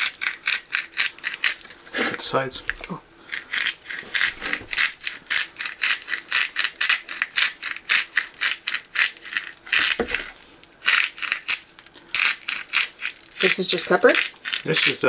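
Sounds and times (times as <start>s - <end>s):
seasoning rattling in shaker: 0.0s - 1.8s, 3.3s - 15.0s.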